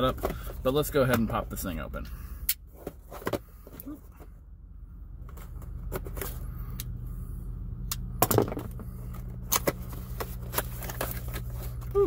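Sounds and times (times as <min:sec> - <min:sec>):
low hum: 0:01.4 - 0:12.0.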